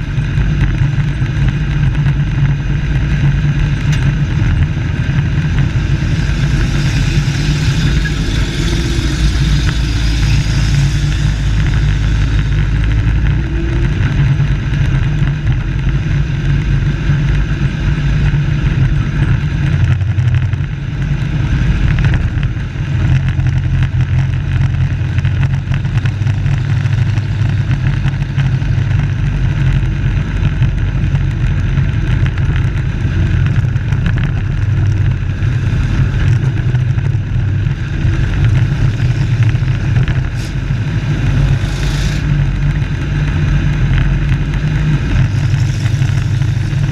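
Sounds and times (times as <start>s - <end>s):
race truck engines droning: 0.0s - 46.9s.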